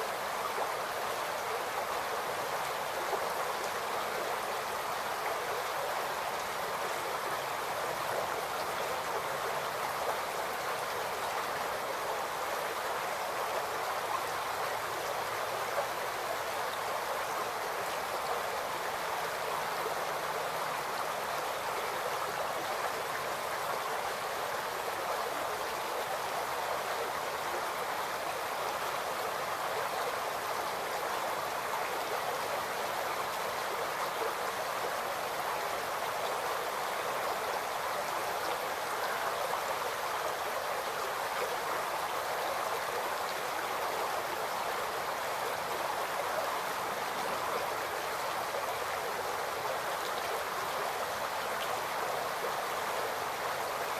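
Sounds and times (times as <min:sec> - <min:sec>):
creek babbling over rocks: 0:00.0 - 0:53.9.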